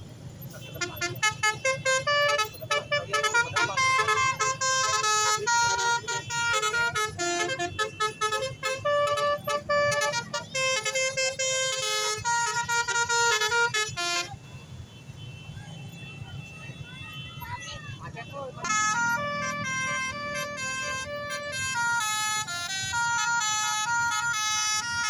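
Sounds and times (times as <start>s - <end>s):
bus horn playing melody: 0.6s - 14.4s, 18.5s - 25.0s.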